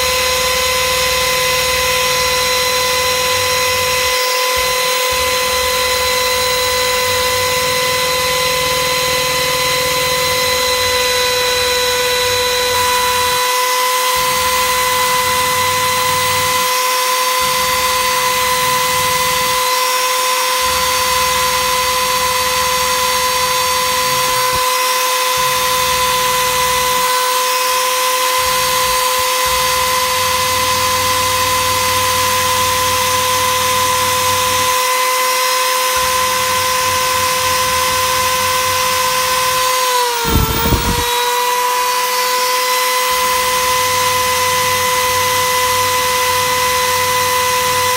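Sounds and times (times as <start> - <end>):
power tool motor whining: 0.0 - 47.9.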